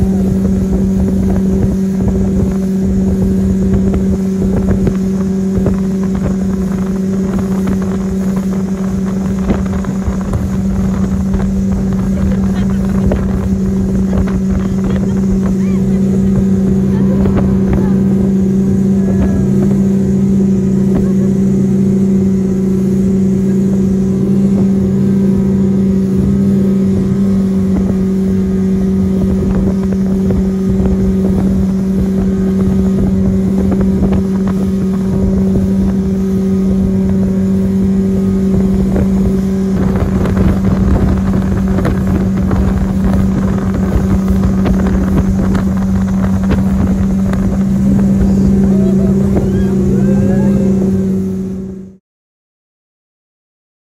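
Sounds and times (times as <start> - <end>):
speedboat engine drone: 0.0 - 52.0
wind and water rushing: 0.0 - 52.0.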